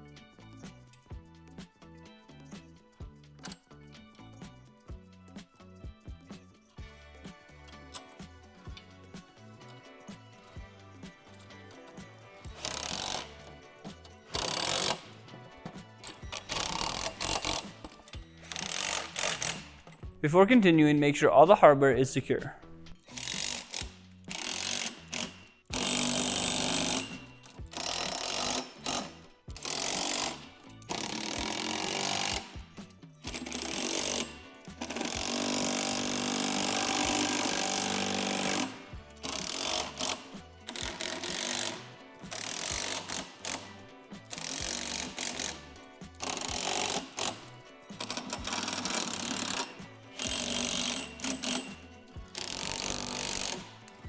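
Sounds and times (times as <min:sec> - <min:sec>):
power driver tightening bolts: 0:07.7 - 0:20.2, 0:22.6 - 0:54.0.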